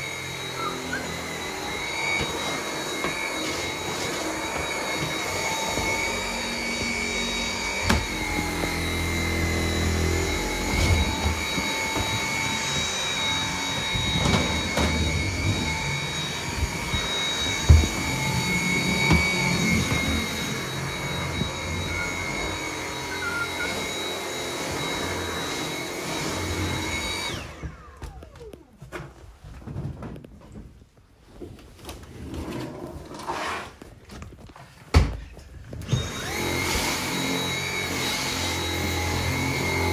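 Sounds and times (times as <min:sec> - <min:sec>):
vacuum cleaner whine: 0:00.0 - 0:30.2, 0:34.4 - 0:39.9.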